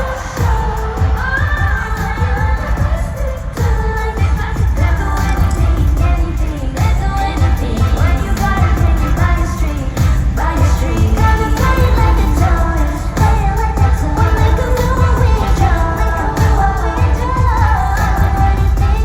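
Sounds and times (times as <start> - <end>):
heavy pulsing bass beat: 0.0 - 19.0
pop music with singing: 0.0 - 19.0.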